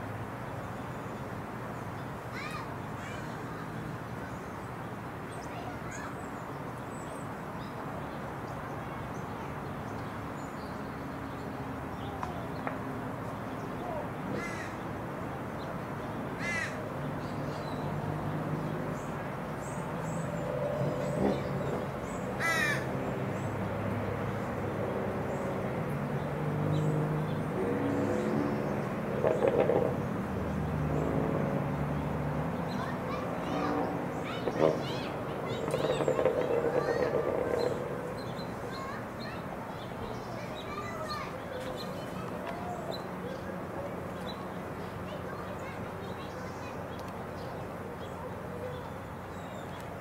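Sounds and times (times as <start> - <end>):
outdoor background noise: 0.0 - 50.0.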